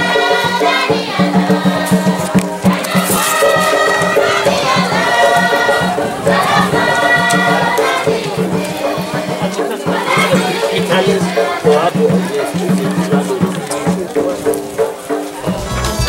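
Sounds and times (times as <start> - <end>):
choir singing church song: 0.0 - 16.0
shakers rattling a beat: 0.0 - 16.0.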